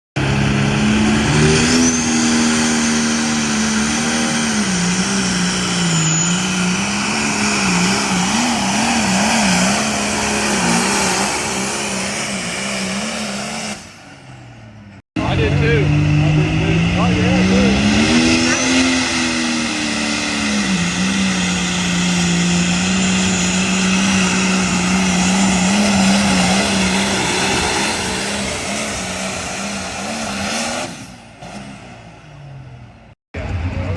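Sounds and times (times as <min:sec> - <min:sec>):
tractor engine revving hard: 0:00.2 - 0:33.9.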